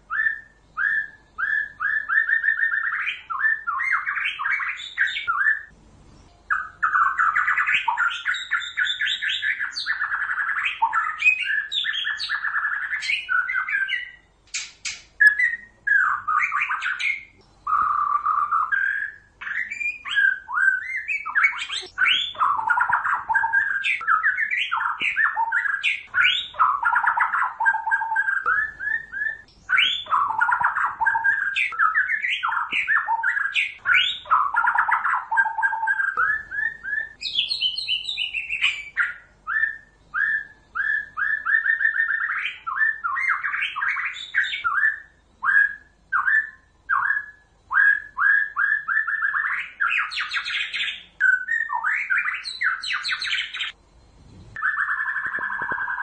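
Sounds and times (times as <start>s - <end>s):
bird singing whistled phrases: 0.0s - 53.8s, 54.6s - 56.0s.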